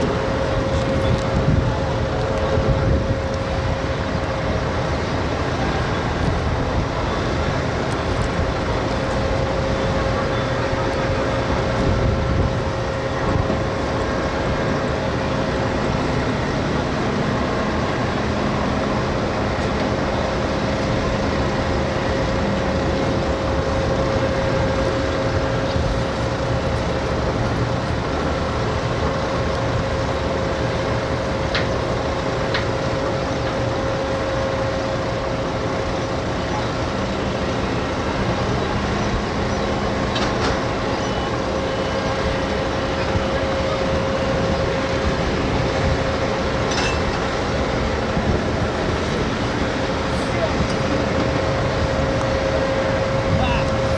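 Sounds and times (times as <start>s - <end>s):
harbour machinery drone: 0.0s - 53.9s.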